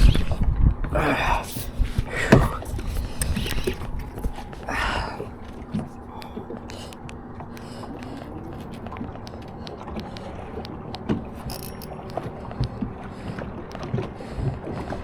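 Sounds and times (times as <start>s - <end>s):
faint steady hum: 0.0s - 15.0s
fishing reel gears whirring: 2.0s - 14.8s.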